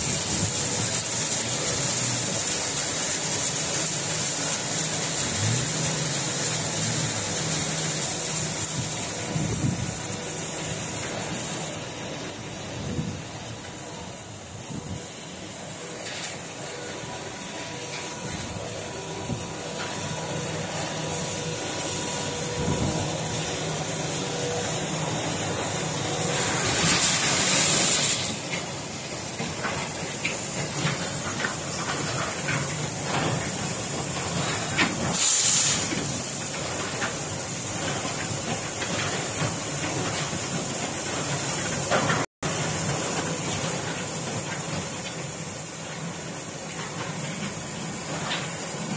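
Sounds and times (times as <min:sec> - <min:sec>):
concrete plant hiss and rumble: 0:00.0 - 0:48.9.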